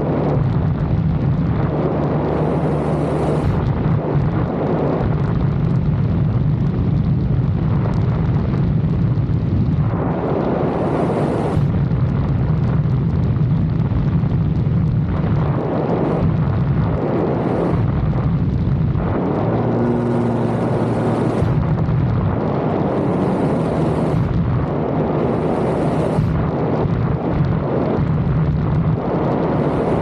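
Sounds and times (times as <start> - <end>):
car engine and road rumble: 0.0 - 30.0
engine hum: 0.0 - 30.0.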